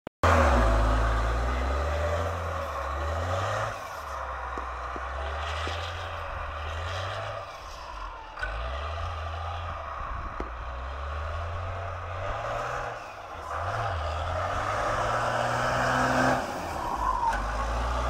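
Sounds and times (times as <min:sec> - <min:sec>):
truck diesel engine driving: 0:00.2 - 0:18.0.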